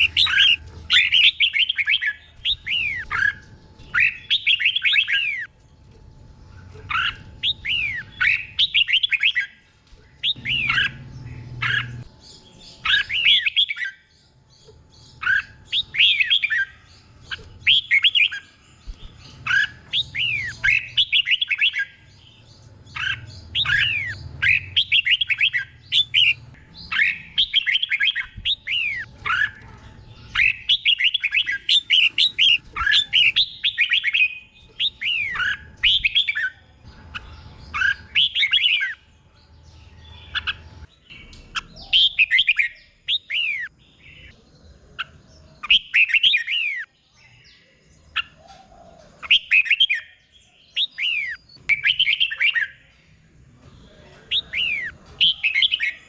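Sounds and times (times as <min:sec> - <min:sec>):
bird singing whistled notes: 0:00.0 - 0:05.5, 0:06.9 - 0:14.3, 0:15.0 - 0:39.1, 0:39.9 - 0:44.4, 0:49.2 - 0:52.9.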